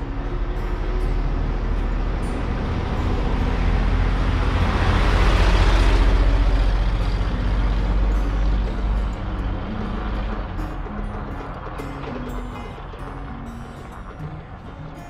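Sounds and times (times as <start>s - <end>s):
truck engine rumble driving past: 0.0s - 15.0s.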